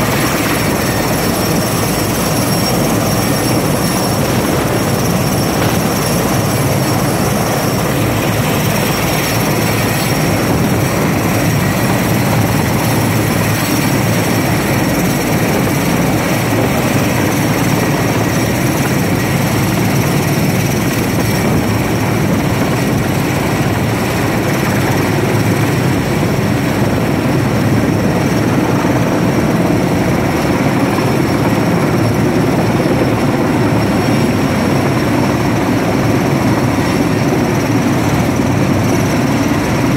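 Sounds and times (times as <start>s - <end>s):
helicopter hovering overhead: 0.0s - 39.9s.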